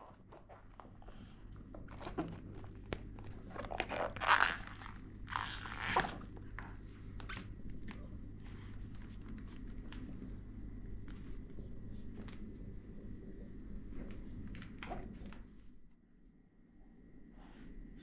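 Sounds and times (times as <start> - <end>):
rustling and crinkling: 0.0 - 15.9.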